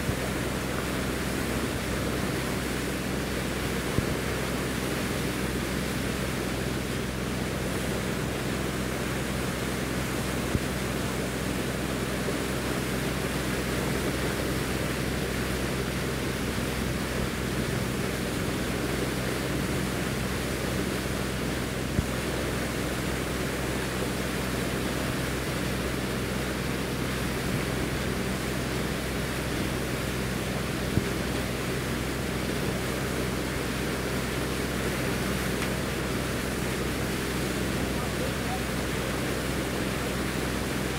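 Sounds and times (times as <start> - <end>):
boat engine droning: 0.0 - 40.9
rush of wind and water: 0.0 - 40.9.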